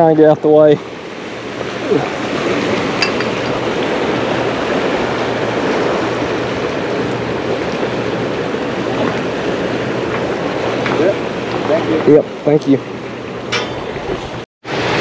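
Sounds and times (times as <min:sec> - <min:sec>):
turbulent water churning: 0:00.0 - 0:15.0.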